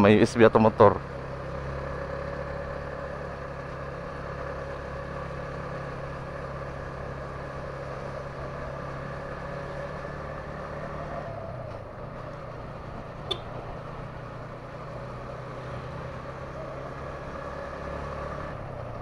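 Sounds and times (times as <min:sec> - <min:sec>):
motorcycle engine cruising: 0:00.0 - 0:19.0
road noise: 0:00.0 - 0:19.0.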